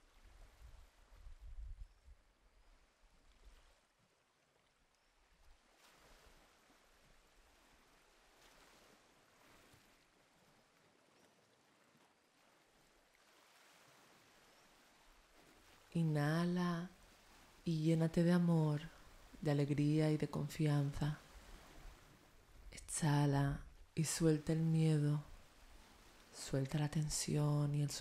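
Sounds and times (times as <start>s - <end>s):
faint background hiss: 0.0s - 28.0s.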